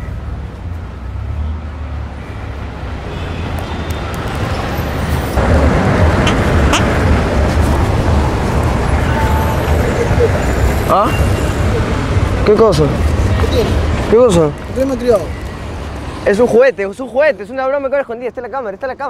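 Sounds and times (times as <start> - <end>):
rumble of passing cars: 0.0 - 19.0.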